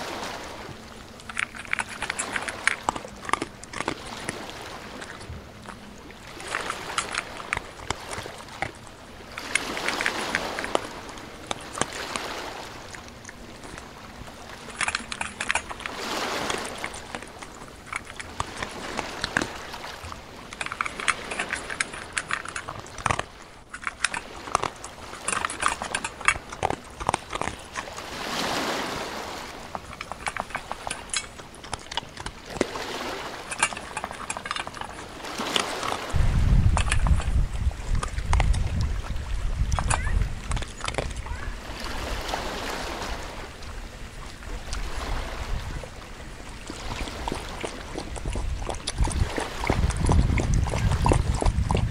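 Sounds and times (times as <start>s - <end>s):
dogs splashing in water: 0.0s - 51.9s.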